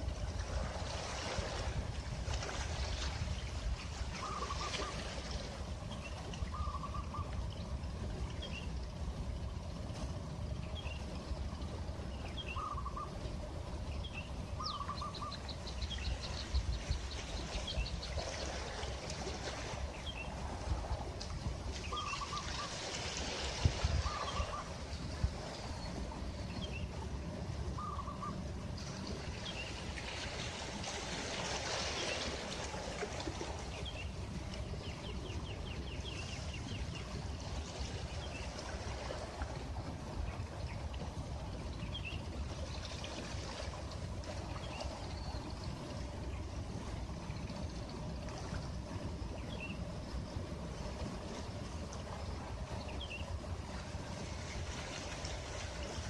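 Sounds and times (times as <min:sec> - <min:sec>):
sea waves washing on beach: 0:00.0 - 0:56.0.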